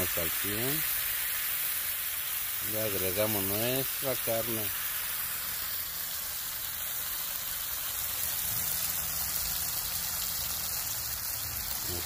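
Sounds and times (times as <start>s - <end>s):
tortillas sizzling on a griddle: 0.0s - 12.0s.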